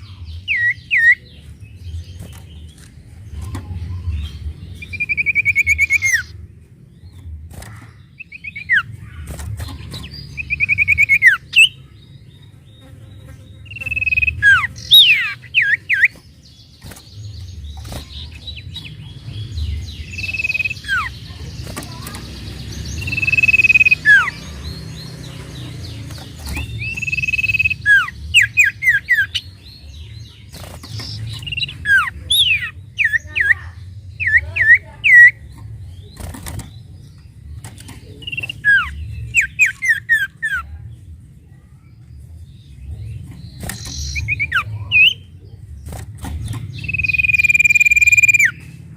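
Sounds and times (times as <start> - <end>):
songbird singing trills and whistles: 0.0 - 40.8, 41.7 - 48.9.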